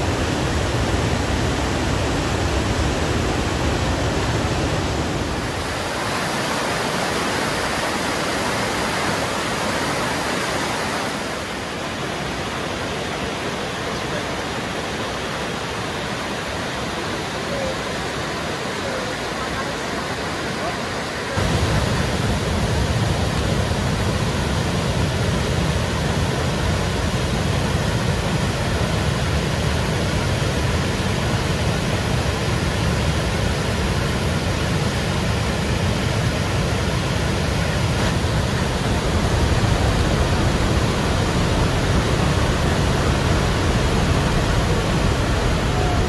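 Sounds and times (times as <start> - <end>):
river rapids rushing over rocks: 0.0 - 46.0.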